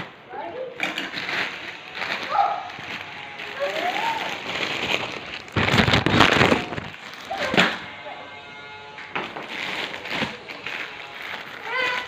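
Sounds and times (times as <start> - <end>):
packaging rustling and crinkling: 0.8 - 8.5, 9.1 - 12.0
faint voices: 1.6 - 12.0.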